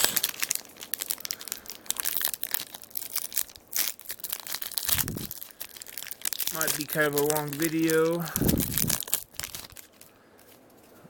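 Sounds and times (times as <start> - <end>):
wrapper tearing and crinkling: 0.0 - 10.7.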